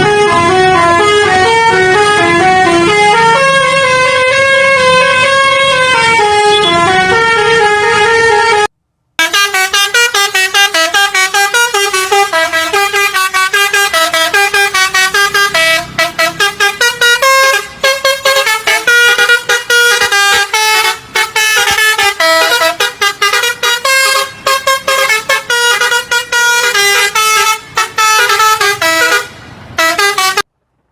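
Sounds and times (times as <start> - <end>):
musical bus horn melody: 0.0 - 30.5.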